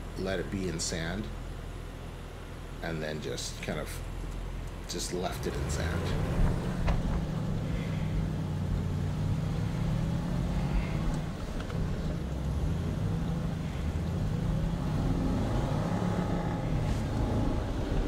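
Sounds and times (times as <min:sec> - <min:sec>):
car engine under load: 0:00.0 - 0:18.0.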